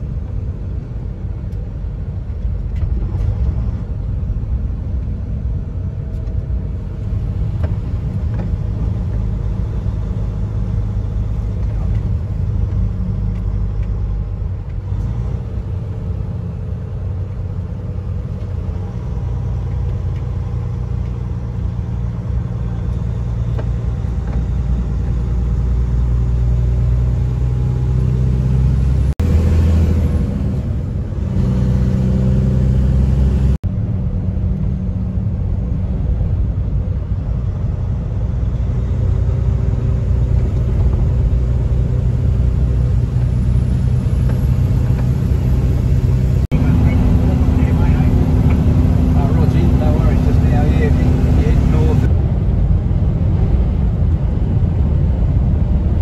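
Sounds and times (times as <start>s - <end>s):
truck engine running: 0.0s - 56.0s
tyre road rumble: 0.0s - 56.0s.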